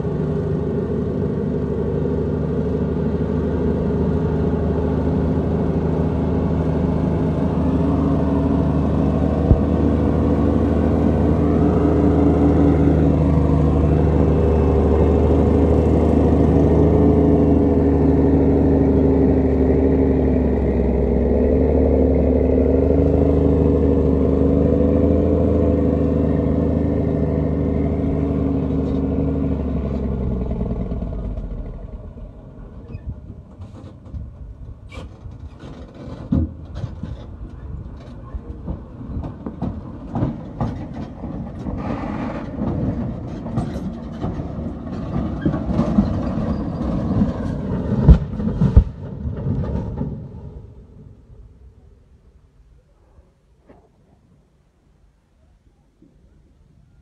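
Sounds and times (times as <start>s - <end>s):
truck engine labouring: 0.0s - 51.0s.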